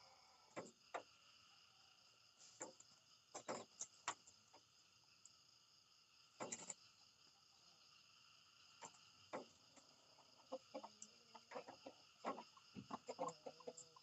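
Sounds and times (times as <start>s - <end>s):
insect chorus chirring: 0.0s - 14.0s.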